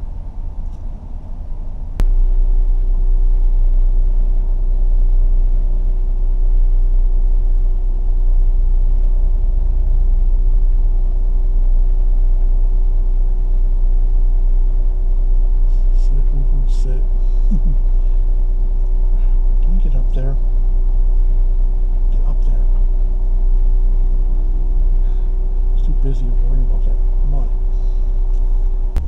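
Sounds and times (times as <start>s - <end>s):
car road rumble: 0.0s - 29.0s
steady hum: 0.0s - 29.0s.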